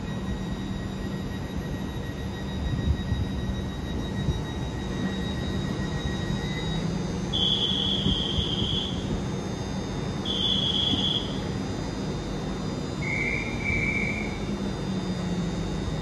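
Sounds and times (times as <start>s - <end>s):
long high electronic beeps: 0.0s - 12.1s, 12.8s - 16.0s
train electrical equipment humming: 0.0s - 16.0s.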